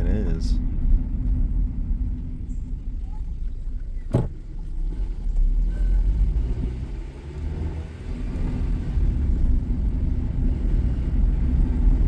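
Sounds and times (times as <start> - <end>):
car engine rumble with knocking: 0.0 - 12.0.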